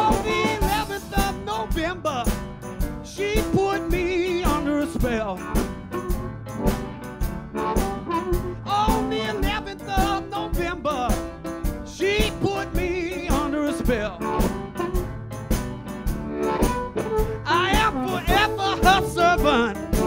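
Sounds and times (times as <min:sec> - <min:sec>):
song with singer and drums: 0:00.0 - 0:07.0, 0:07.6 - 0:15.8, 0:16.4 - 0:20.0.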